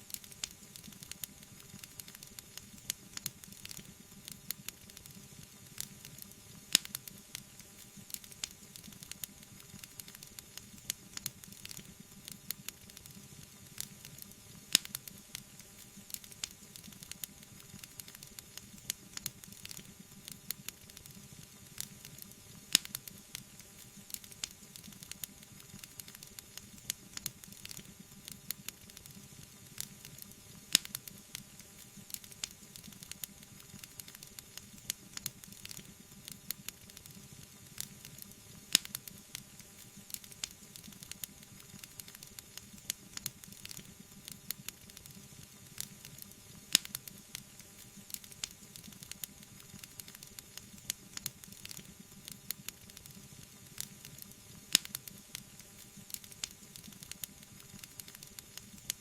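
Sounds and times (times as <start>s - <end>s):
wood fire crackling and hissing: 0.0s - 59.0s.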